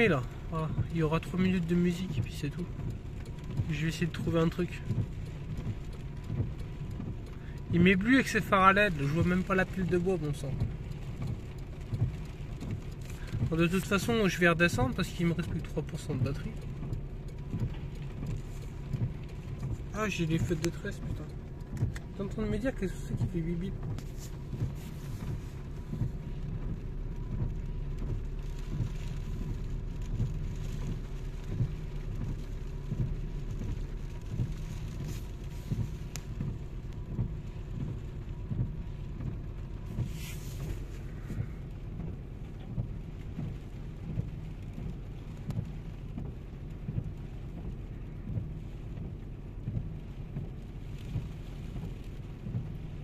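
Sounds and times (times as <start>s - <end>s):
heavy rain on car roof: 0.0s - 53.0s
low steady rumble: 0.0s - 53.0s.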